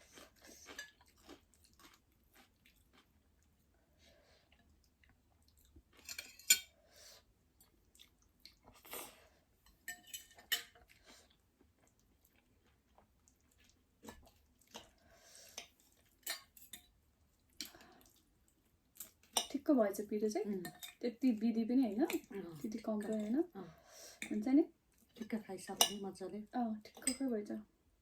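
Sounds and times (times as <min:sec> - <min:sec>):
soft chewing and mouth noises: 0:00.0 - 0:26.2.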